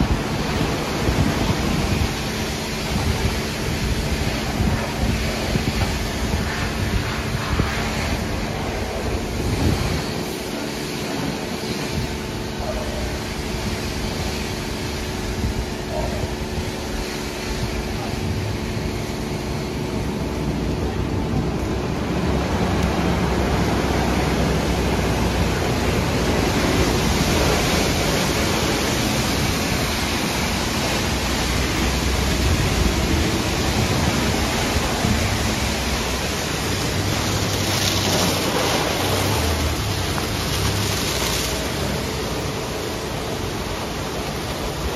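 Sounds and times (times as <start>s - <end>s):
steady machine hum: 0.0s - 44.9s
water spraying: 0.0s - 44.9s.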